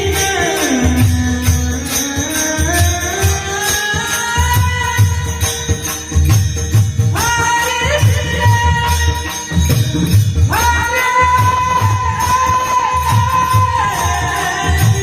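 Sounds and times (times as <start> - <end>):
jingling percussion: 0.0 - 15.0
steady drum beat: 0.0 - 15.0.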